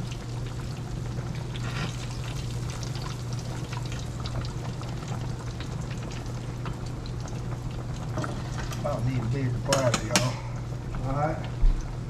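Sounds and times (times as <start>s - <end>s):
steak sizzling in a pan: 0.0s - 10.6s.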